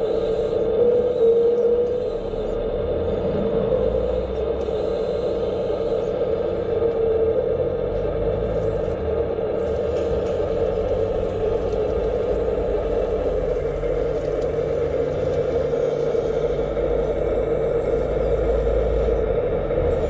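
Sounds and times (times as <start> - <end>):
hydraulic pump humming: 0.0 - 20.0.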